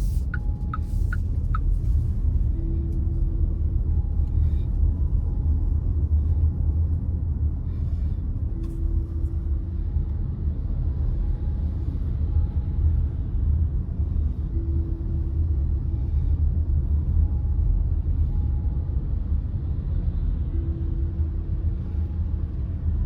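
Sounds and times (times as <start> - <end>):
car engine and road noise: 0.0 - 23.0
steady hum: 0.0 - 23.0.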